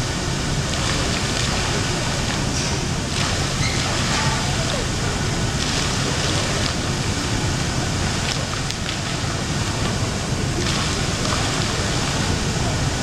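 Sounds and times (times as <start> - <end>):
fountain water splashing on stone: 0.0 - 13.0.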